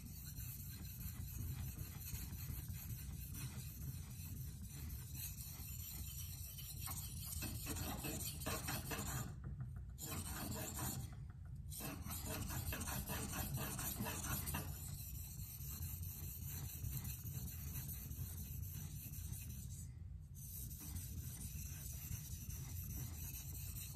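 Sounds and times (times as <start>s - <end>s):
knife scraping on whetstone: 0.0s - 9.4s, 10.0s - 11.1s, 11.7s - 19.7s, 20.4s - 23.9s.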